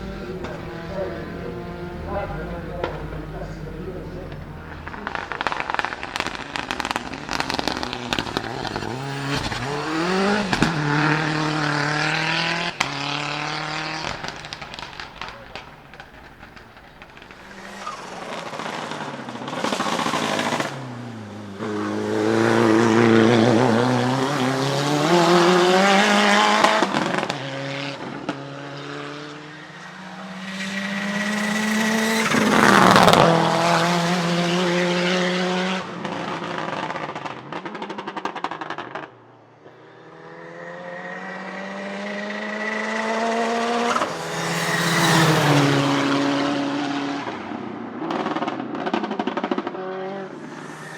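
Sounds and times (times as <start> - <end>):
exhaust crack: 0.0 - 28.4, 29.8 - 39.3, 42.4 - 50.9
race car revving through gears: 0.0 - 37.4, 39.8 - 50.9.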